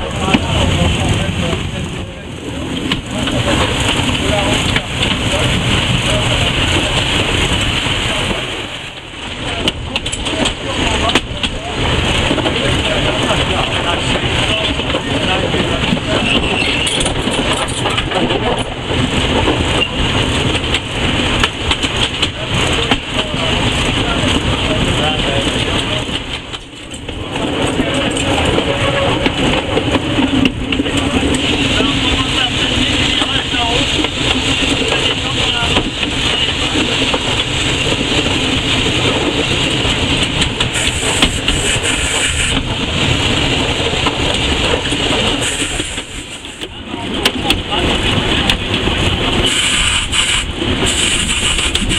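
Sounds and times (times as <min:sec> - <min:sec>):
steam locomotive running on rails: 0:00.0 - 0:51.9.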